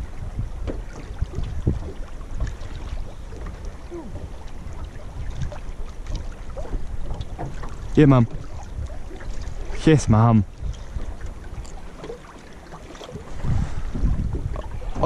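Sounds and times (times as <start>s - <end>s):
wind rumbling on microphone: 0.0s - 12.1s, 13.0s - 15.0s
water lapping against hull: 0.0s - 15.0s.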